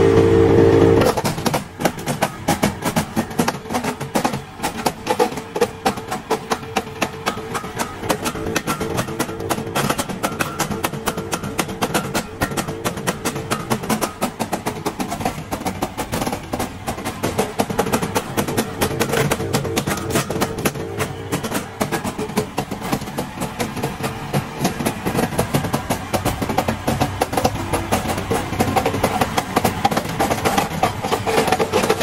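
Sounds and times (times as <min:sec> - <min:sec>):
music with quick percussion beat: 0:01.1 - 0:32.0.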